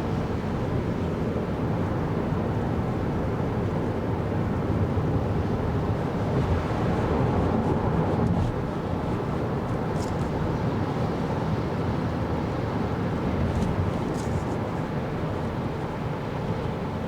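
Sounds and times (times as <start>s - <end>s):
wind noise inside car: 0.2s - 17.0s
road and tyre rumble: 1.3s - 16.9s.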